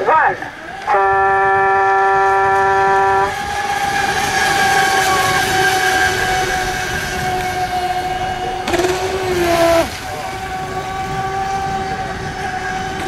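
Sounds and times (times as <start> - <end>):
radio-controlled boat motor drone: 0.0 - 13.0.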